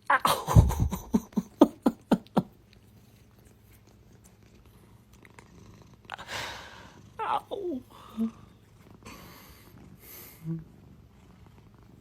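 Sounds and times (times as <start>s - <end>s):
cat purring: 0.5s - 12.0s.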